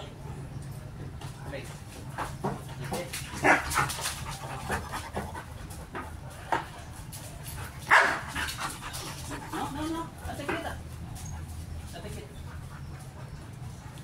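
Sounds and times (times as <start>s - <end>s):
dogs panting: 0.1s - 14.0s.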